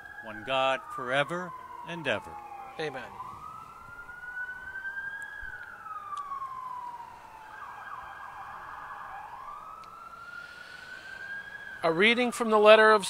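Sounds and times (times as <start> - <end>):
emergency vehicle siren wailing: 0.0 - 13.0.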